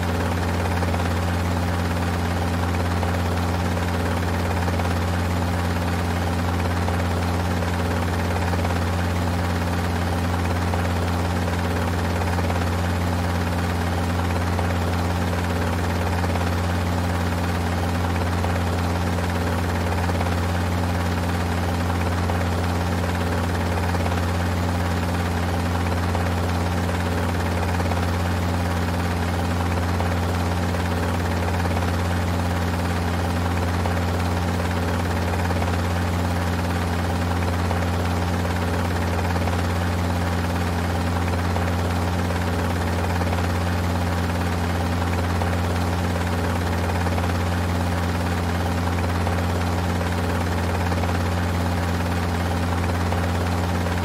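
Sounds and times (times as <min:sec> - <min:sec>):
helicopter running: 0:00.0 - 0:54.0.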